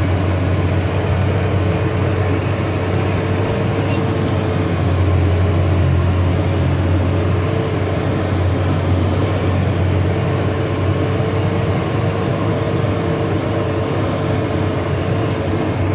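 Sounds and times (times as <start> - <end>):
vehicle engine and tyre drone: 0.0 - 15.9.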